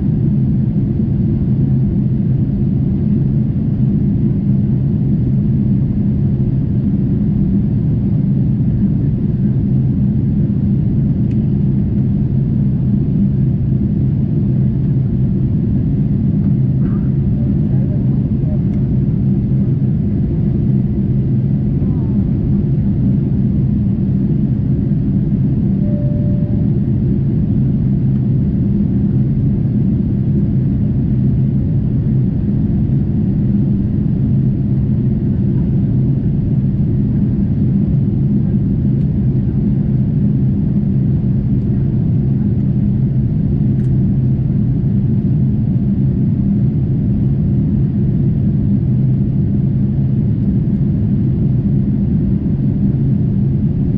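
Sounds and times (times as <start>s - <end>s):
airplane cabin low rumble: 0.0s - 53.9s
faint steady hum: 0.0s - 53.9s.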